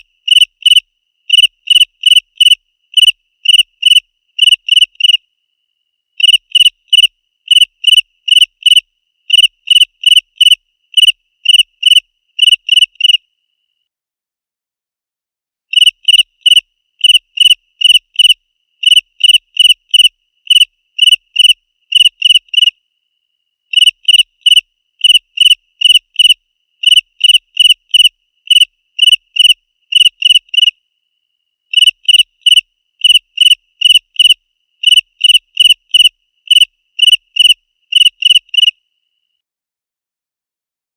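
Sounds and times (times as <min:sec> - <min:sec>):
cricket chirping: 0:00.0 - 0:13.9, 0:15.7 - 0:39.4.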